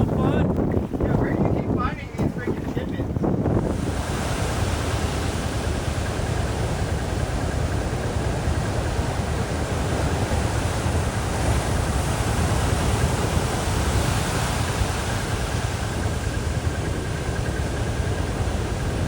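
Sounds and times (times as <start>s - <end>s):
wind: 0.0s - 19.0s
rushing water: 3.7s - 19.0s.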